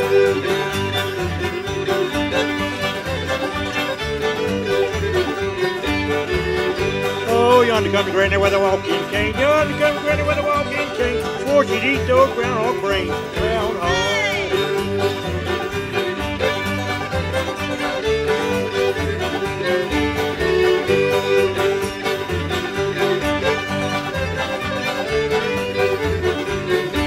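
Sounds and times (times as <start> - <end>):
banjos: 0.0 - 27.0
fiddles playing melody: 0.0 - 27.0
guitar: 0.0 - 27.0
upright bass: 0.0 - 27.0.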